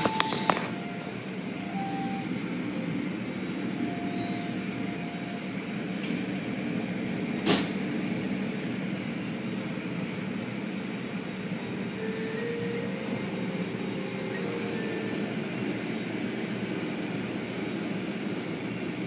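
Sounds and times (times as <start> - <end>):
car wash motors and water rumble: 0.0 - 19.0.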